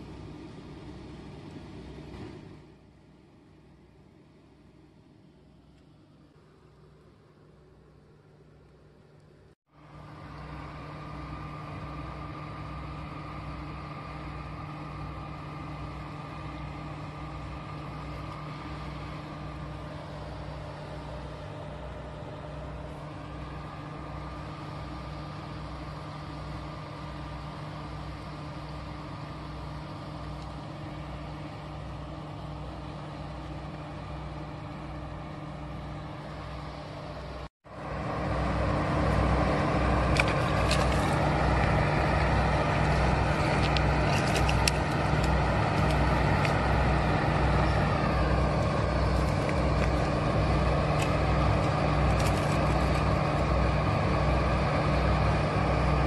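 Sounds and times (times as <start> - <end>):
engine humming with low throb: 0.0 - 56.0.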